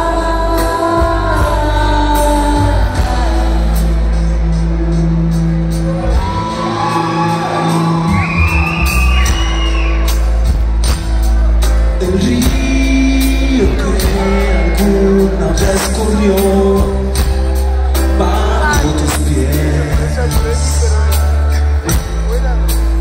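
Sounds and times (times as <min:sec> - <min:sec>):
male lead vocal: 0:00.0 - 0:08.2, 0:11.7 - 0:23.0
drums: 0:00.0 - 0:23.0
heavy bass line: 0:00.0 - 0:23.0.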